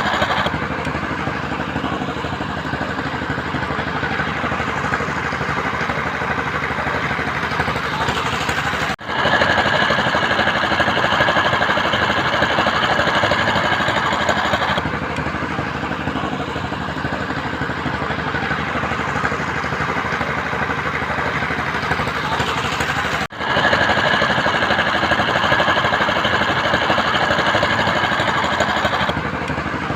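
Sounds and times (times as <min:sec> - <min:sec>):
construction machine engine running: 0:00.0 - 0:29.9.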